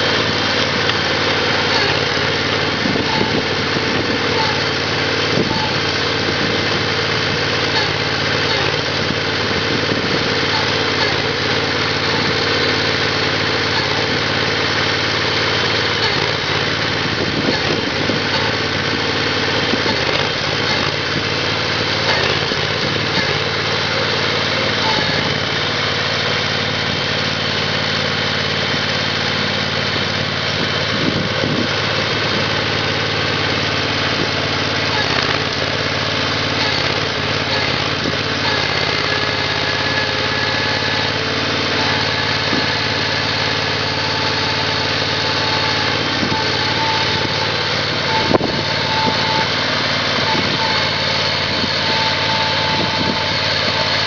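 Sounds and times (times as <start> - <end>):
small engine running loudly: 0.0 - 54.0.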